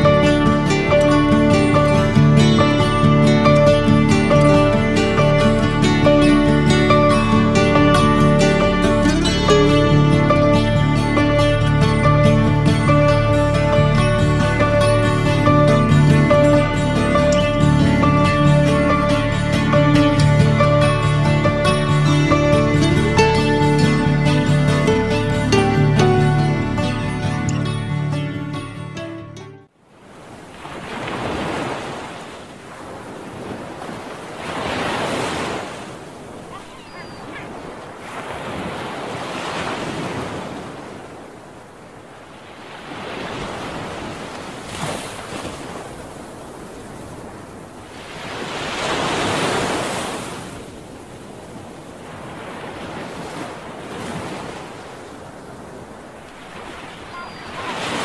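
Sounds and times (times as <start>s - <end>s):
waves washing in and out: 0.0s - 27.6s, 29.6s - 58.0s
wind: 0.0s - 58.0s.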